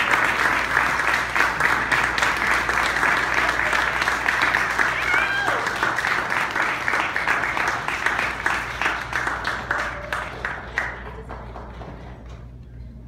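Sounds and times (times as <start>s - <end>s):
crowd clapping: 0.0s - 12.6s.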